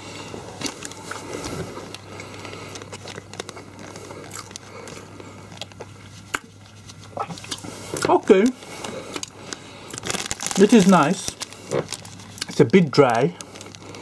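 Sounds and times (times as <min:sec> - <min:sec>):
low steady hum: 0:00.0 - 0:14.0
chewing flaky pastry: 0:00.6 - 0:14.0
plastic wrapper crinkling: 0:01.9 - 0:14.0.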